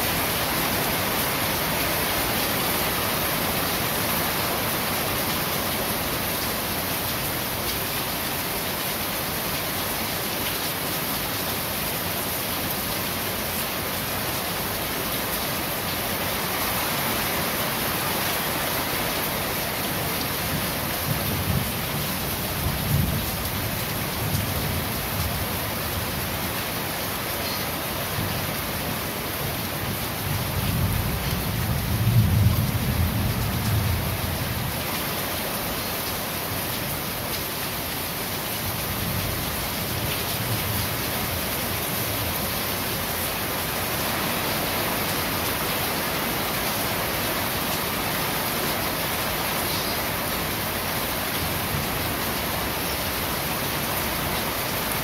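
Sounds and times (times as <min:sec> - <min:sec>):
rain on corrugated roofs: 0:00.0 - 0:55.0.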